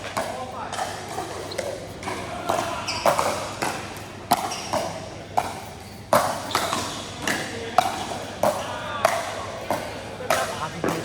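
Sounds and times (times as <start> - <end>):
paddles hitting plastic ball: 0.1 - 11.0.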